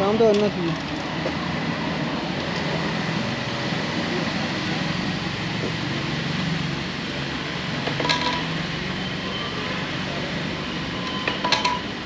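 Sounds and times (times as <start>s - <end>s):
background traffic noise: 0.0s - 12.0s.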